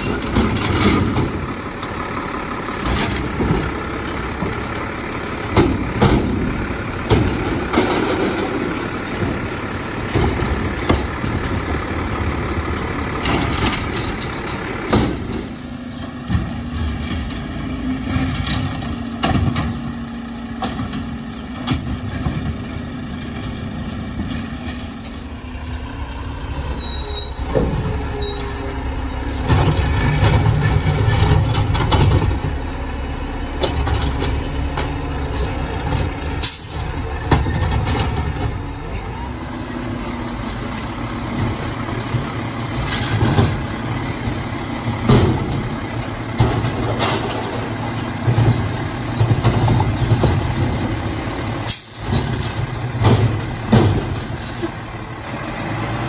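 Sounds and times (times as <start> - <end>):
diesel engines revving: 0.0 - 56.0.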